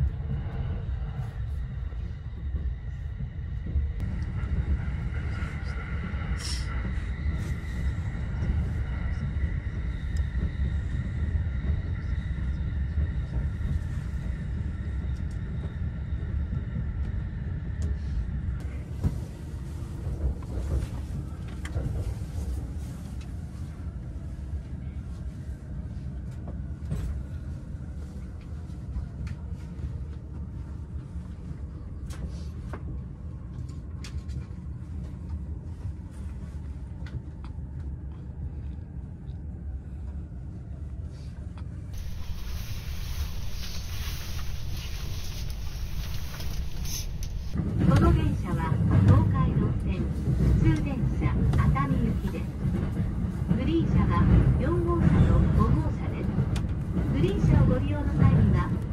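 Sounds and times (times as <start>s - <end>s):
train running rumble: 0.0s - 40.7s, 41.5s - 58.9s.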